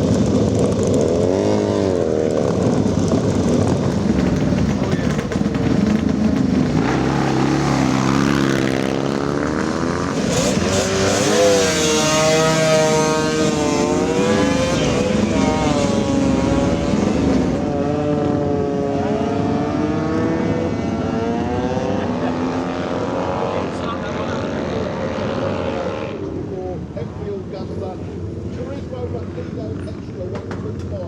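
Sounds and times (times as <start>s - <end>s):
motorcycle engine revving: 0.0s - 26.4s.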